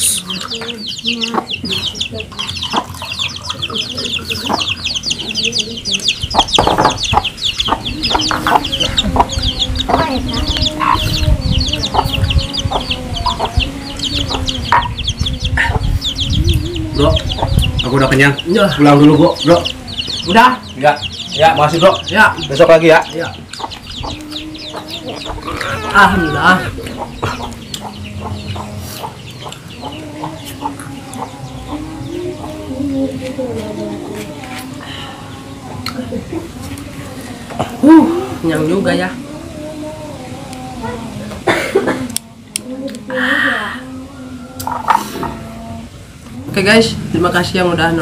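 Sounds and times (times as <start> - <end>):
chicks peeping and clucking: 0.0 - 43.1, 43.8 - 48.0.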